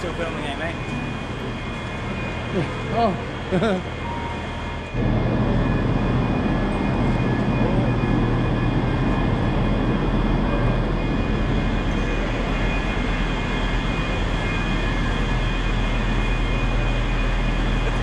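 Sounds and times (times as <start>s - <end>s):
faint steady whines: 0.0s - 18.0s
trains humming at platforms: 0.0s - 18.0s.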